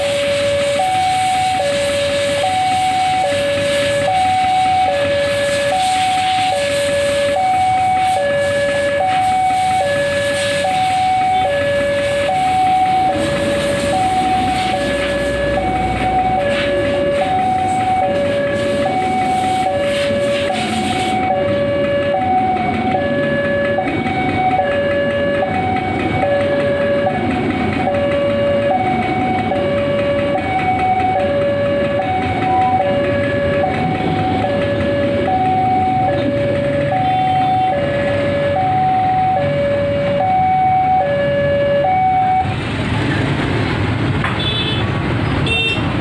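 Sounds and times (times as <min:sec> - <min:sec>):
level crossing alarm two-tone: 0:00.0 - 0:42.6
train rumbling past: 0:00.0 - 0:44.2.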